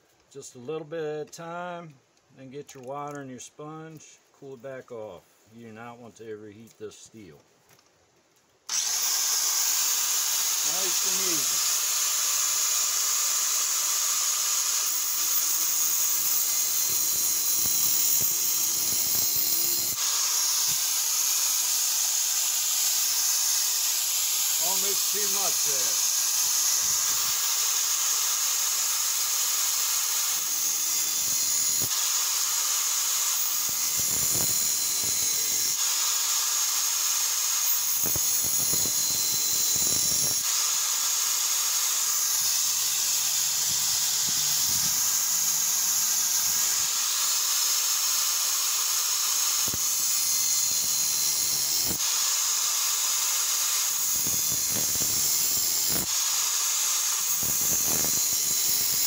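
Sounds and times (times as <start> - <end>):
angle grinder cutting steel: 8.7 - 59.0.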